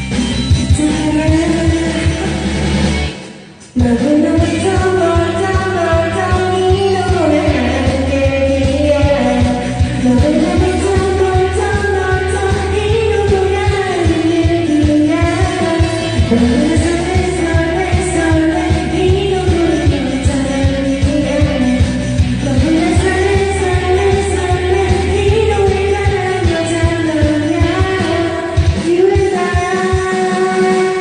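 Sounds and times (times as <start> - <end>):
karaoke backing track: 0.0 - 31.0
person singing slow pop song: 0.0 - 31.0.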